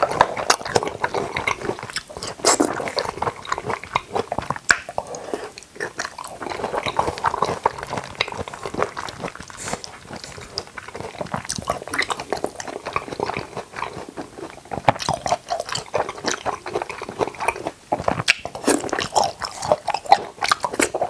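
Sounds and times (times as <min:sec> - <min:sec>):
person chewing sticky fruit: 0:00.0 - 0:21.0.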